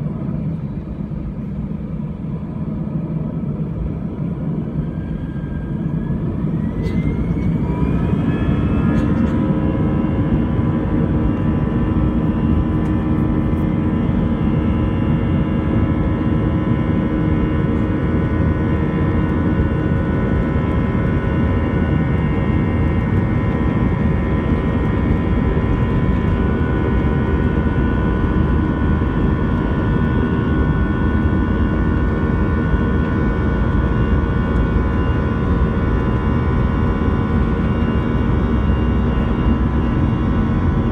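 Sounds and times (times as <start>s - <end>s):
jet engines whining at takeoff: 0.0s - 40.9s.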